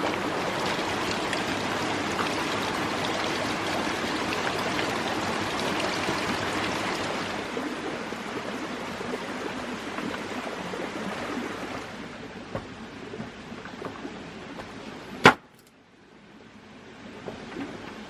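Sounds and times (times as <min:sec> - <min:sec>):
stream of running water: 0:00.0 - 0:18.0.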